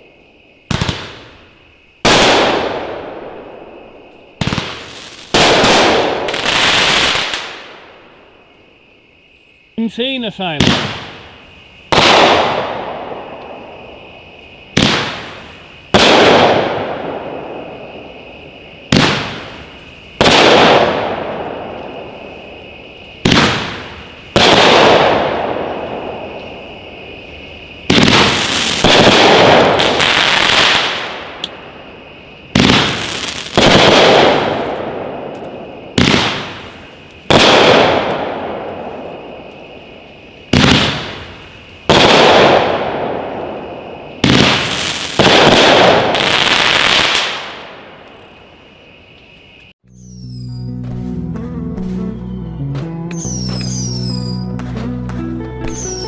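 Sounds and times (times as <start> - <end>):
firework launch crack: 0.6 - 8.5, 10.4 - 49.7
firework burst: 0.7 - 8.3, 10.6 - 48.4.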